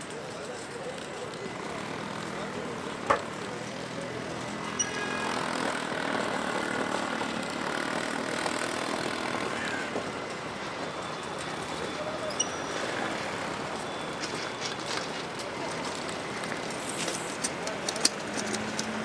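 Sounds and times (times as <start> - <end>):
faint voices: 0.0 - 19.0
traffic noise: 0.0 - 19.0.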